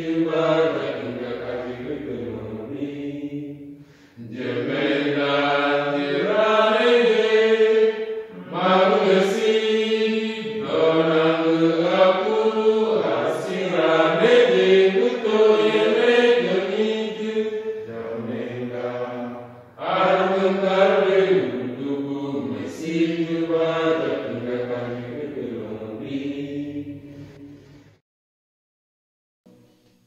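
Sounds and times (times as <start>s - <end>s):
group singing slow chant: 0.0s - 28.0s.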